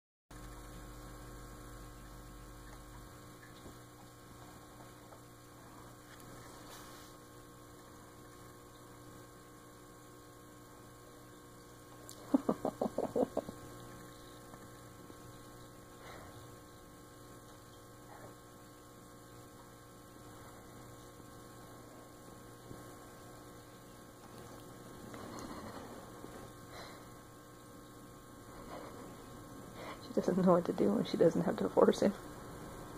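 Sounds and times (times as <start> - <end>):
faint electrical mains hum: 0.3 - 32.9.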